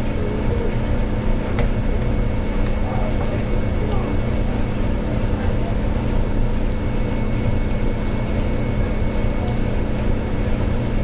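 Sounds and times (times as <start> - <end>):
faint high whine: 0.0 - 11.0
low machine hum: 0.0 - 11.0.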